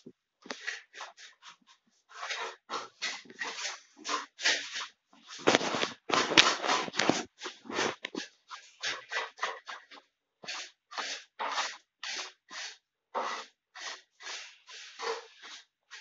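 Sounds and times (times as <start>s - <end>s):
hand rubbing countertop: 0.5s - 16.0s.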